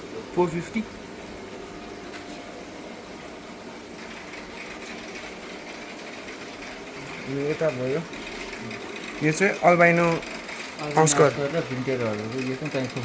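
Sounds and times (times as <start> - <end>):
aquarium air pumps humming: 0.0 - 13.0.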